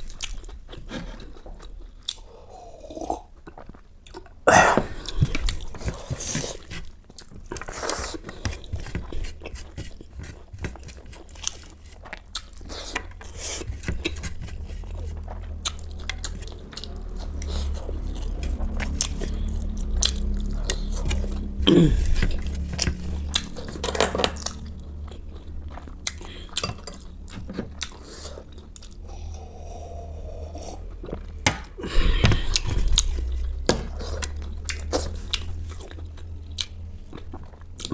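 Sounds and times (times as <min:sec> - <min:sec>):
person chewing crunchy food: 0:00.0 - 0:37.9
steady low hum: 0:04.3 - 0:37.9.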